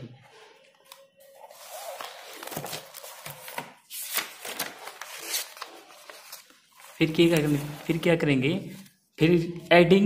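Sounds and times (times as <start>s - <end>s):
notebook pages rustling: 0.3s - 9.1s.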